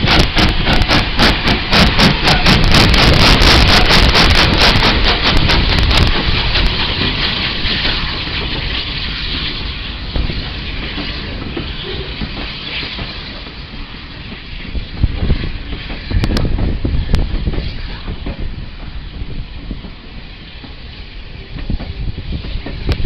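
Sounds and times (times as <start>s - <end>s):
steam locomotive passing: 0.0s - 23.0s.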